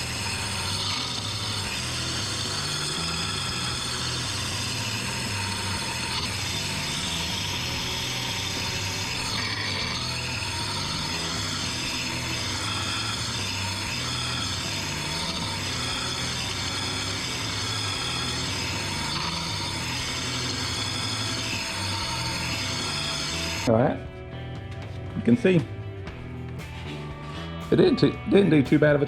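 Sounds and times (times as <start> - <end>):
sanding wheel grinding steel blade: 0.0 - 23.7.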